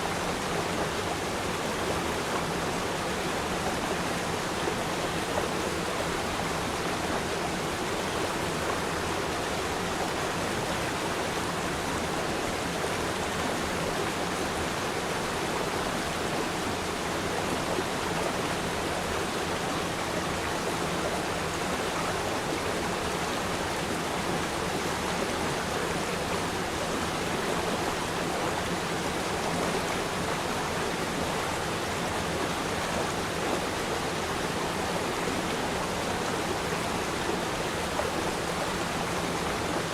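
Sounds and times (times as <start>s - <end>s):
stream flowing and babbling: 0.0s - 39.9s.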